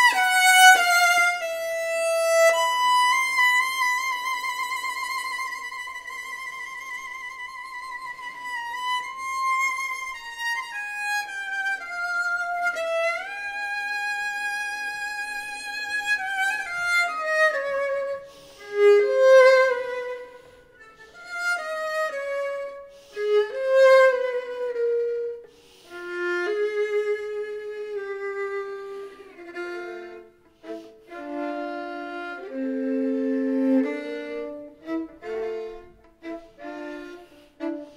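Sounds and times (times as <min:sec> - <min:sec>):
solo violin playing: 0:00.0 - 0:37.9.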